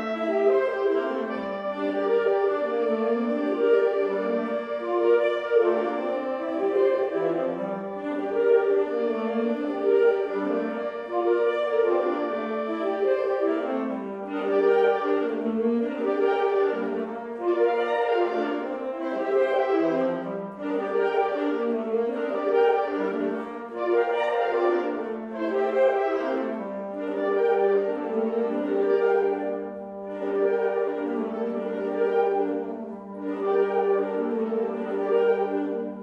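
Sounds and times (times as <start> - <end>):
woodwind ensemble playing: 0.0 - 36.0.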